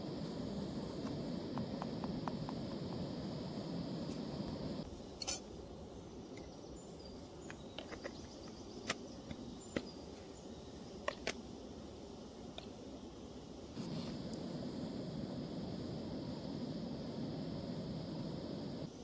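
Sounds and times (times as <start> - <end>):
faint outdoor background: 0.0 - 19.0
steady hiss: 0.0 - 19.0.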